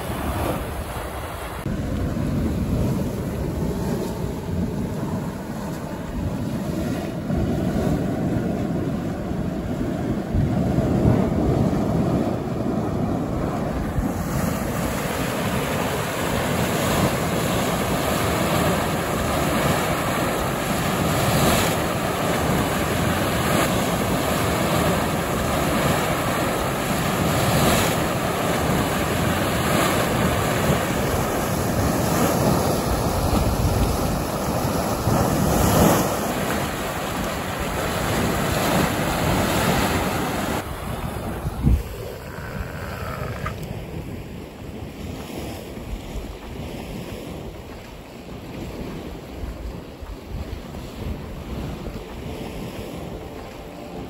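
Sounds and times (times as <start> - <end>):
hot spring rushing and churning: 0.0 - 54.0
wind buffeting microphone: 0.0 - 54.0.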